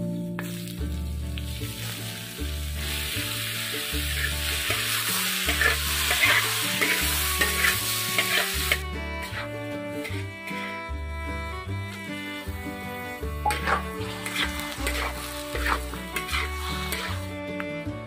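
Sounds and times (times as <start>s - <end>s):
music with steady bass line: 0.0s - 18.0s
mushrooms sizzling in hot oil: 0.4s - 10.8s, 11.9s - 17.4s
spatula scraping a wok: 1.6s - 17.4s.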